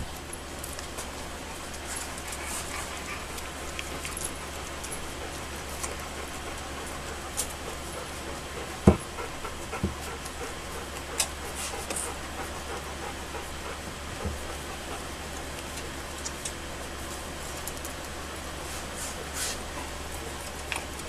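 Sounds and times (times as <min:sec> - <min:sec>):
puppies suckling and shuffling: 0:00.0 - 0:21.0.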